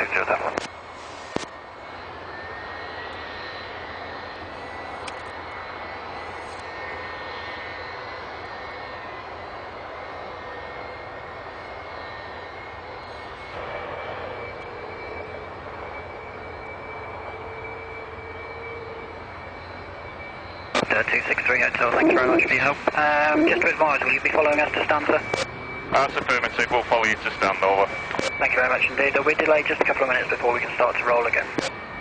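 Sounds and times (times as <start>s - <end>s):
jet engine running: 0.0s - 32.0s.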